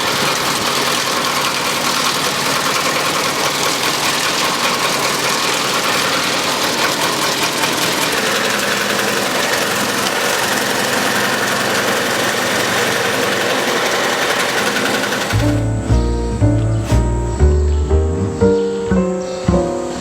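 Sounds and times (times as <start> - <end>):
wood shaving machine running: 0.0 - 17.0.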